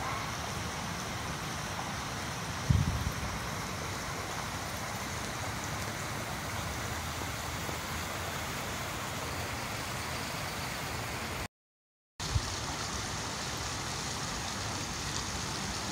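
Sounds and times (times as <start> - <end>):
fountain water splashing: 0.0 - 11.5, 12.2 - 15.9.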